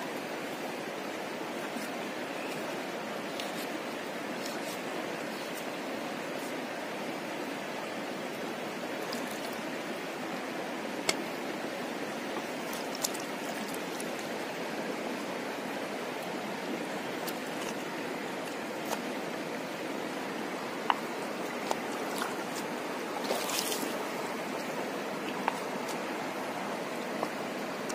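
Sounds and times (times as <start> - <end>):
river water over stones: 0.0 - 27.9.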